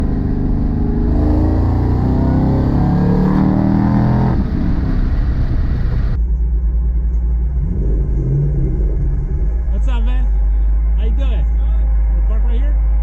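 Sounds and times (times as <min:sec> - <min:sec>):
car engine accelerating hard: 0:00.0 - 0:06.2, 0:07.3 - 0:13.0.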